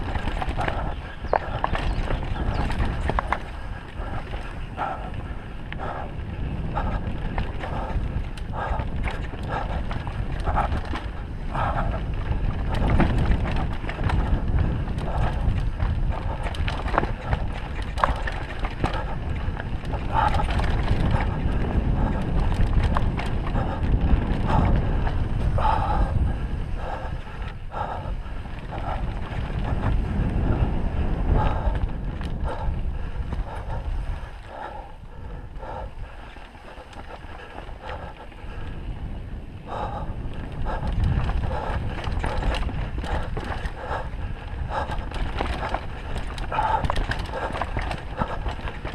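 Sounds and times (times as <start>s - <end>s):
bike rattling: 0.0s - 48.9s
wind buffeting microphone: 0.0s - 48.9s.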